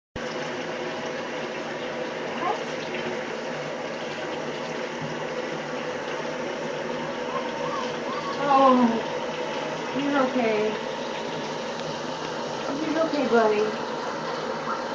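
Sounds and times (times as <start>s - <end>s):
water pouring into bathtub: 0.2s - 14.9s.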